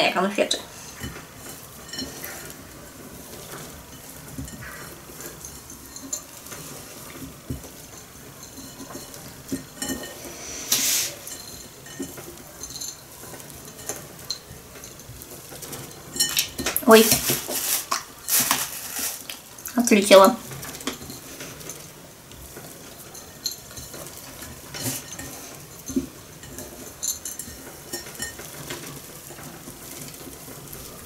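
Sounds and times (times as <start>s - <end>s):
chopped nuts rustling on plate: 0.4s - 31.0s.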